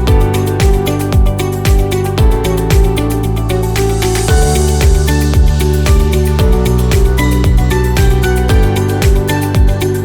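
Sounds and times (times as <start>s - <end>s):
kick drum: 0.0s - 3.4s, 4.3s - 10.0s
electronic music with steady beat: 0.0s - 10.0s.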